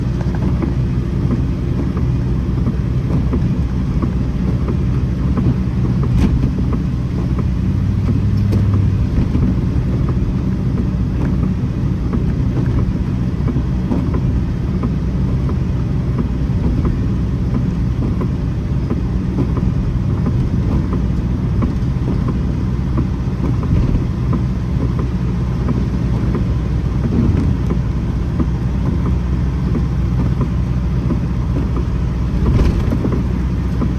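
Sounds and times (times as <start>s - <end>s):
low rumble: 0.0s - 33.9s.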